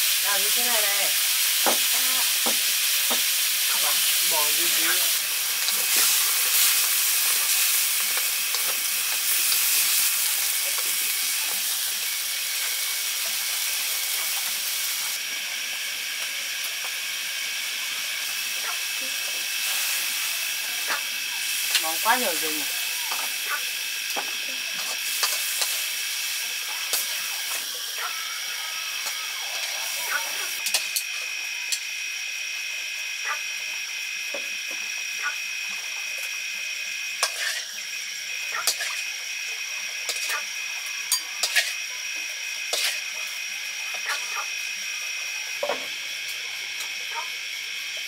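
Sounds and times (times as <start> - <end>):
food sizzling in lard: 0.0 - 48.0.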